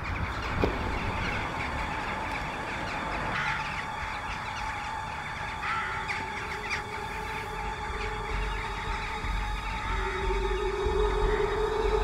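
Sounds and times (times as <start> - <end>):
flock of crows calling: 0.0 - 12.0
low steady rumble: 0.0 - 12.0
held steady tone: 1.0 - 12.0.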